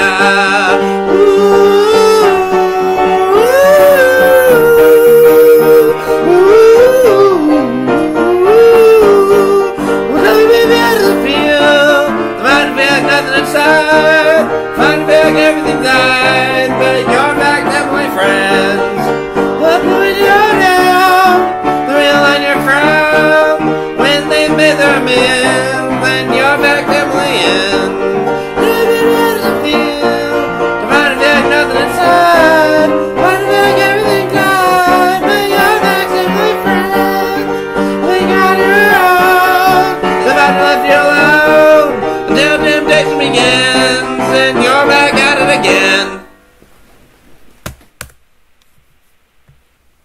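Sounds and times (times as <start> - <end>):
sung vocal harmonies: 0.0 - 46.4
instrumental backing: 0.0 - 48.2.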